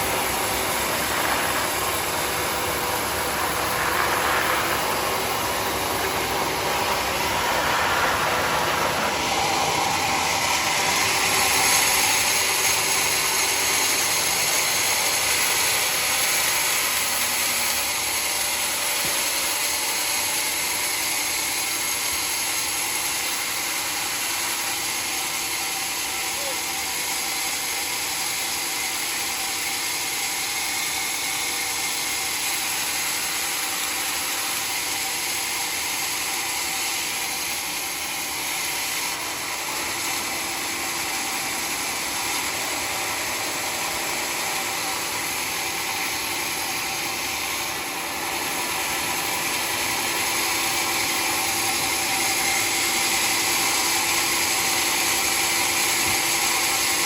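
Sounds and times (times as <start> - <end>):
sawmill machine noise: 0.0 - 57.0.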